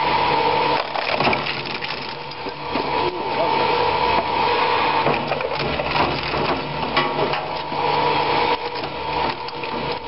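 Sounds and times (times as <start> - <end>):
shredder humming: 0.0 - 10.0
cutters crunching hard drives: 0.6 - 10.0.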